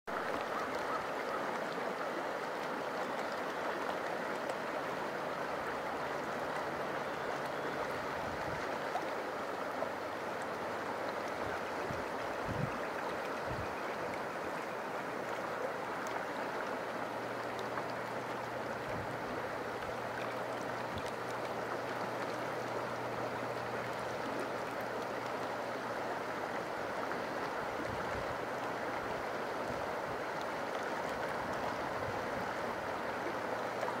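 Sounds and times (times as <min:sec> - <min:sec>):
river water flowing over rocks: 0:00.1 - 0:34.0.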